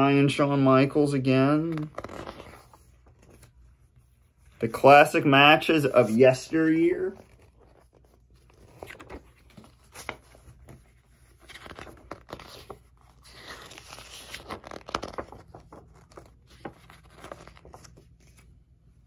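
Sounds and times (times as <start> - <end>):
magazine pages turning: 1.1 - 19.0.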